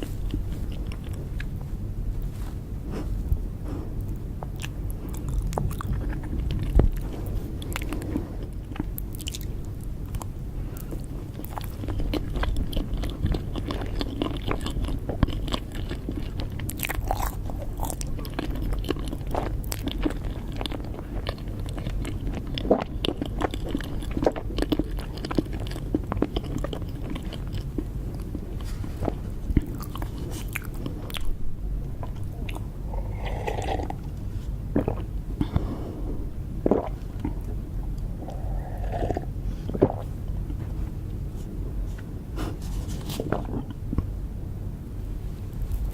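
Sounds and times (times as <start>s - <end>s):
person chewing cake: 0.0s - 44.2s.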